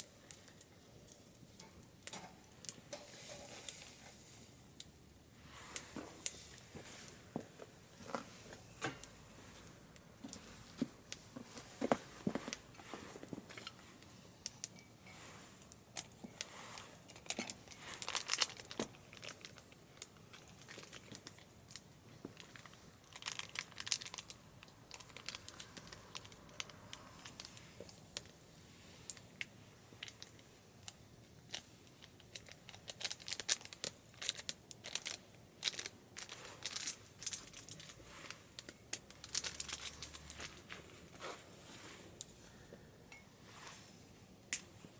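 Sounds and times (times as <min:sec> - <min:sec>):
wood fire crackling and popping: 0:00.0 - 0:14.8, 0:15.6 - 0:41.1.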